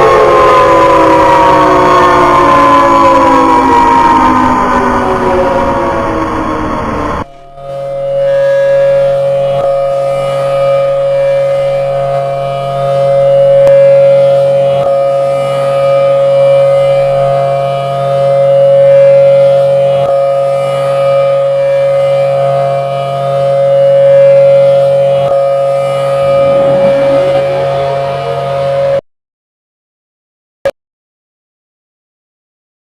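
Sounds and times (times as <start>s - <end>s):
warning siren steady tone: 0.0s - 29.0s.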